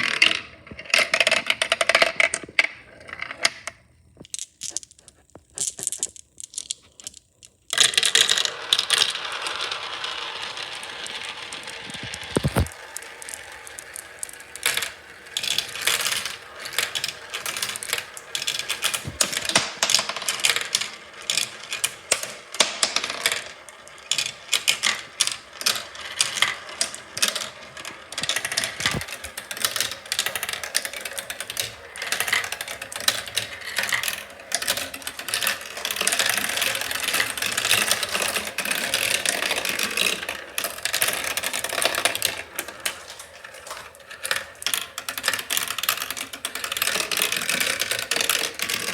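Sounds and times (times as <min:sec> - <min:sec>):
marbles rattling along a track: 0:00.0 - 0:48.9.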